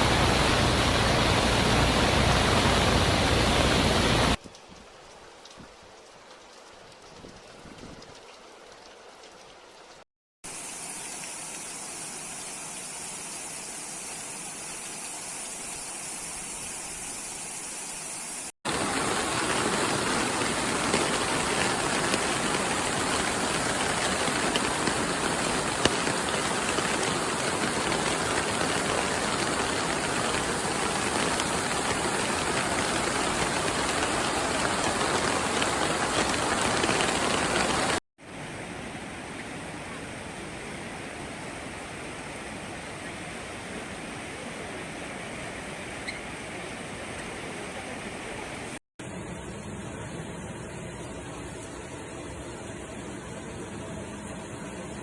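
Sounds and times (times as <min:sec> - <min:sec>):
heavy rain: 0:00.0 - 0:48.8
running floodwater: 0:00.0 - 0:48.8.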